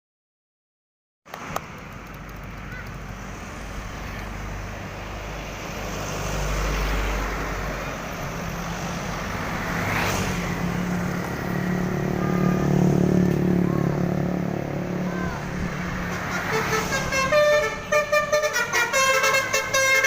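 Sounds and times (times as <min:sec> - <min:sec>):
heavy vehicle engine drone: 0:01.3 - 0:20.0.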